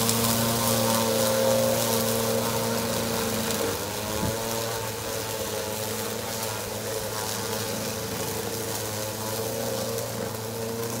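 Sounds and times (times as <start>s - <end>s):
blades cutting grass: 0.0s - 11.0s
lawn mowers humming: 0.0s - 11.0s.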